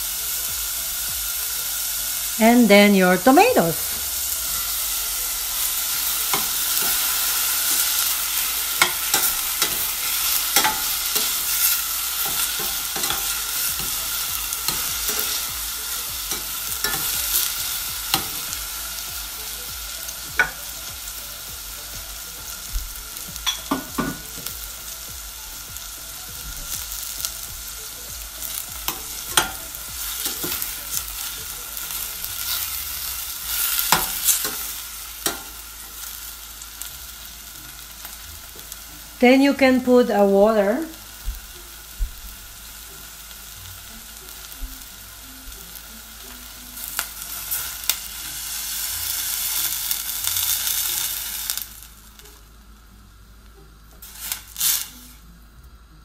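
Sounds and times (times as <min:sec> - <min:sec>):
vegetables sizzling in a saucepan: 0:00.0 - 0:56.0.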